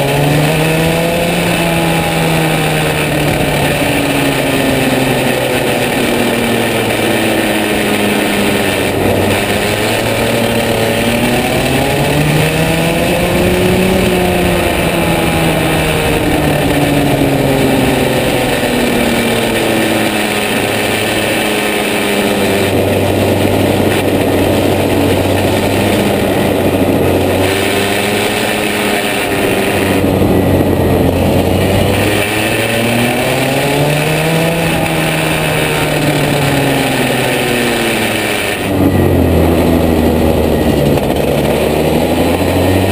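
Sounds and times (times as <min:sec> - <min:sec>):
kart engine accelerating: 0:00.0 - 0:42.9.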